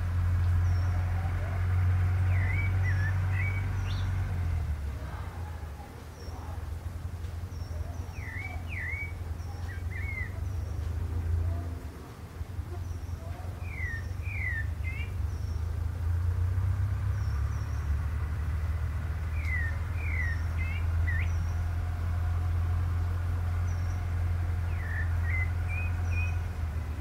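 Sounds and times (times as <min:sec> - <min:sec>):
thrush whistling song: 0:00.0 - 0:04.6, 0:07.4 - 0:11.6, 0:12.6 - 0:27.0.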